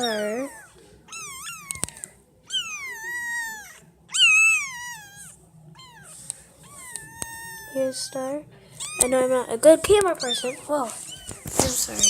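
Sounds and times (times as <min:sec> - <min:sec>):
kitten mewing: 0:00.0 - 0:08.2, 0:08.8 - 0:09.3, 0:10.2 - 0:12.0.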